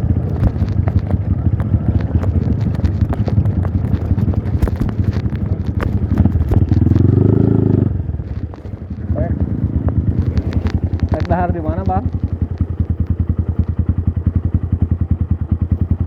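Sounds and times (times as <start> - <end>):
bike rattling over rough ground: 0.0 - 16.0
motorcycle engine under load: 0.0 - 16.0.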